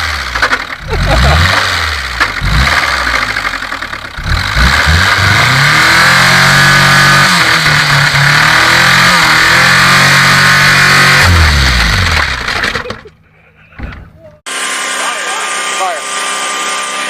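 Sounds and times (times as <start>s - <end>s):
car engine revving: 0.0s - 12.9s, 14.5s - 17.0s.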